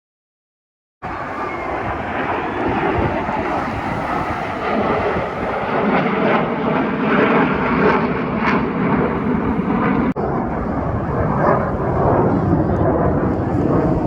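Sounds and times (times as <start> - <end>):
jet aircraft flying overhead: 1.0 - 14.0.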